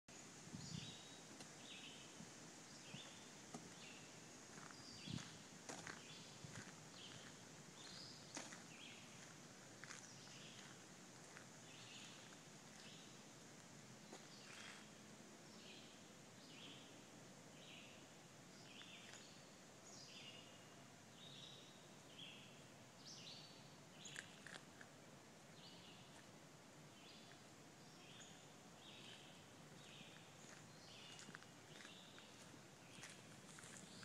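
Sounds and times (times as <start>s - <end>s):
steady hiss: 0.1s - 34.0s.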